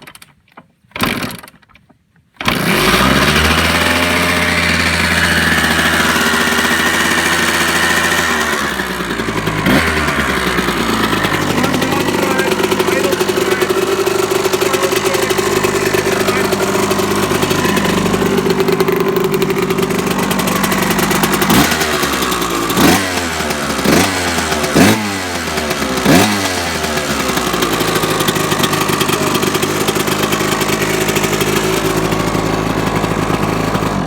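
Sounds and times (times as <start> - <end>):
two-stroke engine idling and revving: 2.4 - 34.0.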